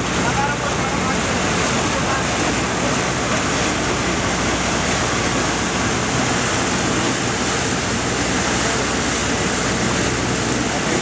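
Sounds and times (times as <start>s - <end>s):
ship engine hum: 0.0s - 11.0s
water rushing along a hull: 0.0s - 11.0s.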